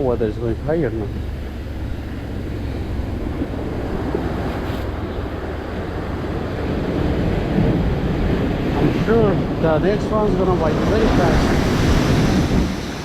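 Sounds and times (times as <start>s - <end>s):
surf washing onto beach: 0.0s - 13.0s
wind rumbling on microphone: 0.0s - 13.0s.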